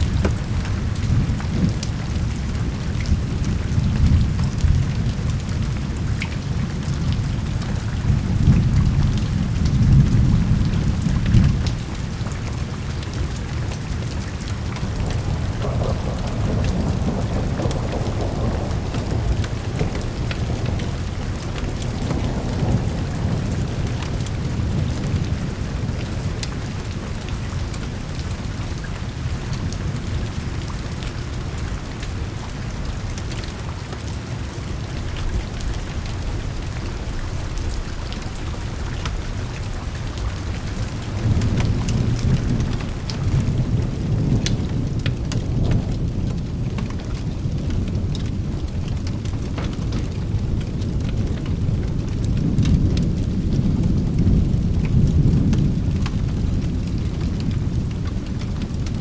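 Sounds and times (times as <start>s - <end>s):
rolling thunder rumble: 0.0s - 59.0s
steady rain: 0.0s - 59.0s.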